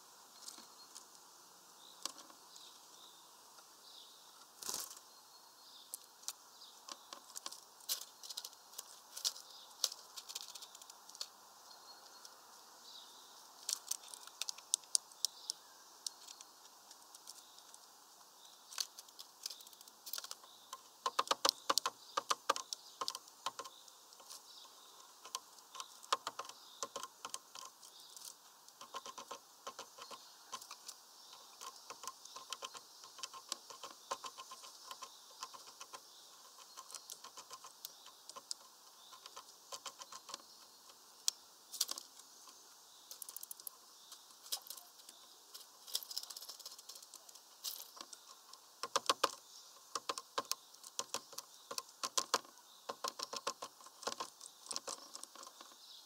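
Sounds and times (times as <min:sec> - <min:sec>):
birds pecking at seed feeder: 0:00.4 - 0:03.7, 0:04.4 - 0:56.0.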